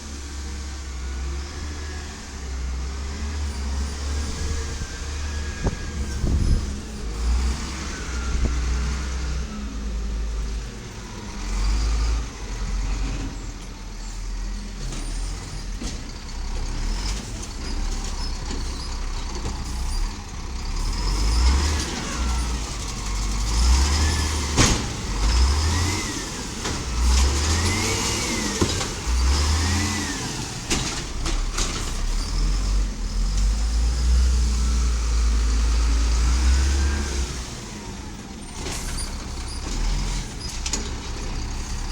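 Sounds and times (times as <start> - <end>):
garbage truck engine running: 0.0 - 41.9.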